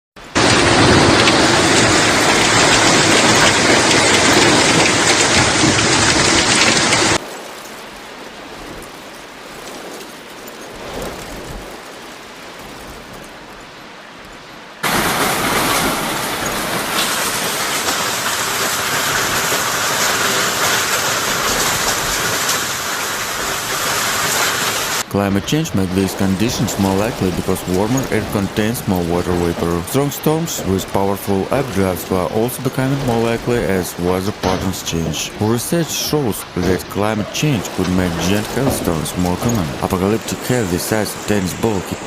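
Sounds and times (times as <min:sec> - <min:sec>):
hail and rain pelting down: 0:00.2 - 0:42.0.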